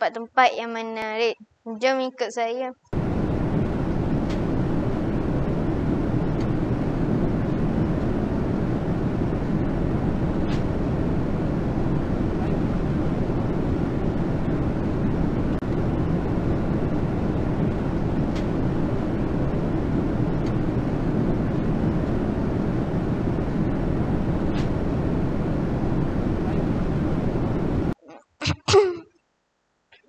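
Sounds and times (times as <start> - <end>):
airliner cabin rumble: 3.0 - 28.0.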